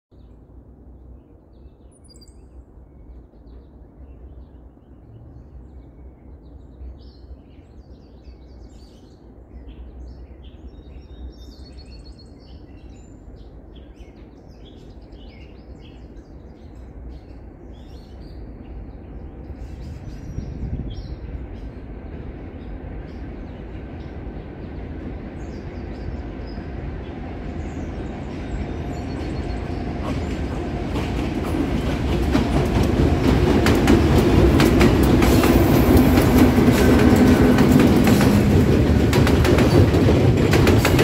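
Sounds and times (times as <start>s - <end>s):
songbirds chirping and trilling: 0.1s - 41.0s
freight train rumble: 0.2s - 41.0s.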